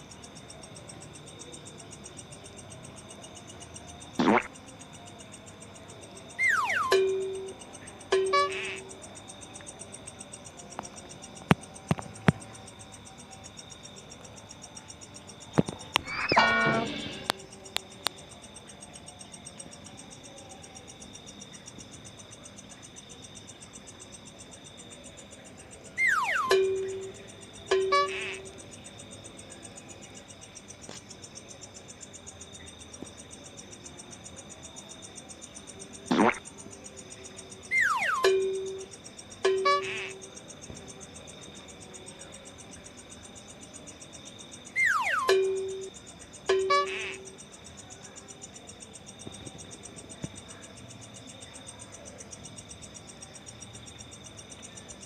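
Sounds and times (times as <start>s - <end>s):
crickets chirping: 0.0s - 55.0s
high insect drone: 0.0s - 55.0s.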